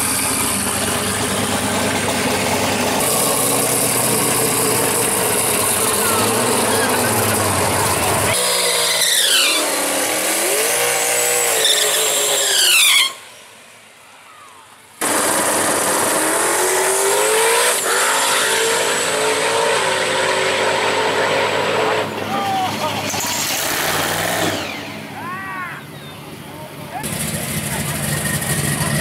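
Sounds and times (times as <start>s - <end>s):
car engine revving: 0.0s - 13.3s, 15.0s - 25.2s, 27.0s - 29.0s.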